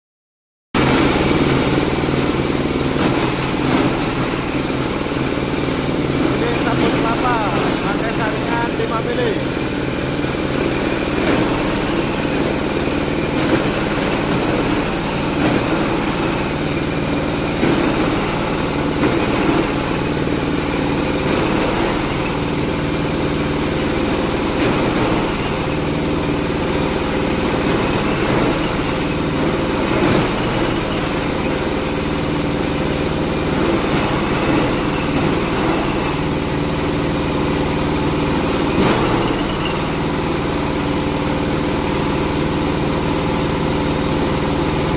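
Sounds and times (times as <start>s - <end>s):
grinding machine engine drone: 0.8s - 44.9s.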